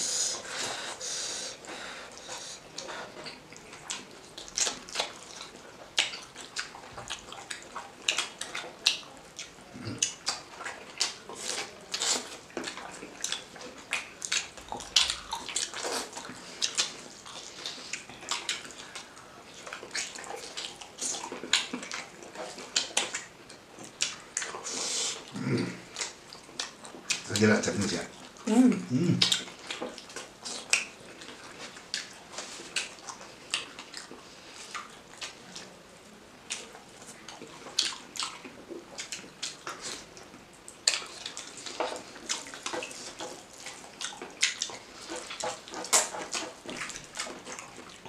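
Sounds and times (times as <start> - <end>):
wet chewing and lip smacking: 1.4 - 28.5, 29.2 - 48.0.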